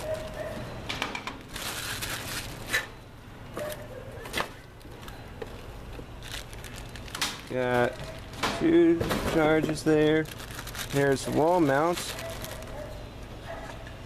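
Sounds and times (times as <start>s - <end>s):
plastic and cardboard rustling: 1.4s - 2.9s, 3.6s - 13.9s.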